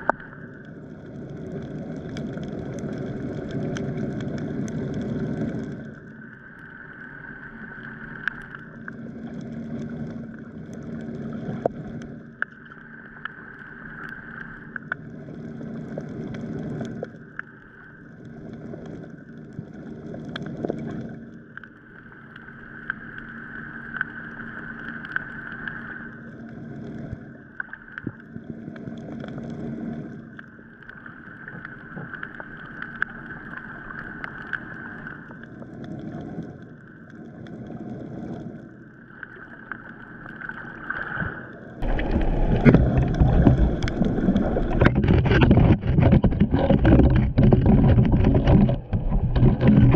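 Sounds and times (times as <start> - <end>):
underwater hum: 0.0 - 49.9.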